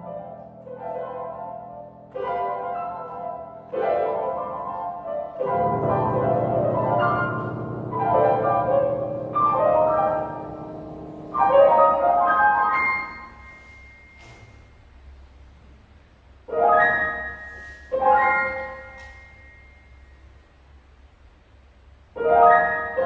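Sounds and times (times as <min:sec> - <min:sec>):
piano chords ringing: 0:00.0 - 0:15.4, 0:16.4 - 0:21.0, 0:22.1 - 0:23.0.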